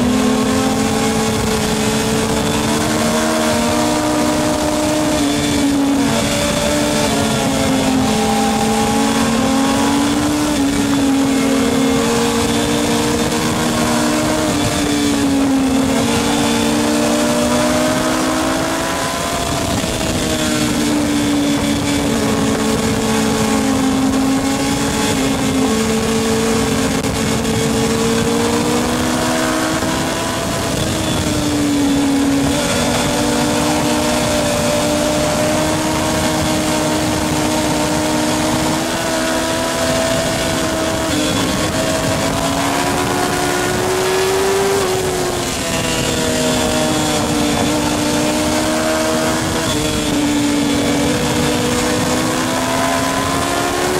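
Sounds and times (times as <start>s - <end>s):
racing motorcycle engines: 0.0s - 53.9s.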